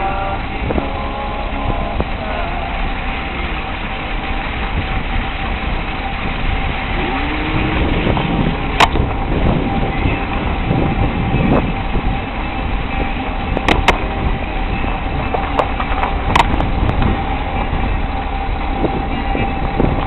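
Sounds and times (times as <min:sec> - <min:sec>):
vehicle driving on bumpy dirt track: 0:00.0 - 0:20.0.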